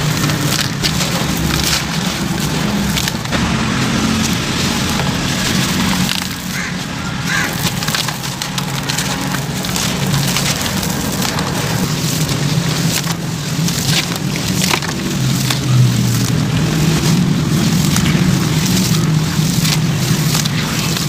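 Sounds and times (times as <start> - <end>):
crumbling cement lumps crunching: 0.0 - 21.0.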